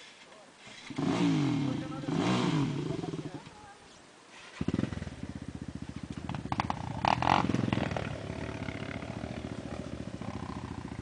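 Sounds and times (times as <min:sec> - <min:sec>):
motorcycle engine revving: 0:00.8 - 0:03.5, 0:04.6 - 0:11.0.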